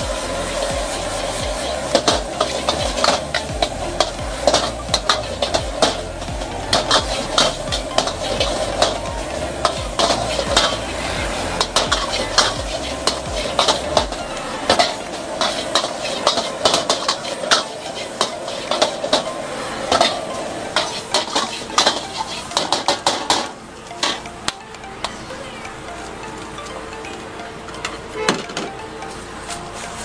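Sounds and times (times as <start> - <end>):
rice and egg sizzling in oil: 0.0 - 26.6, 29.1 - 30.0
metal ladle scraping a wok: 0.2 - 24.3.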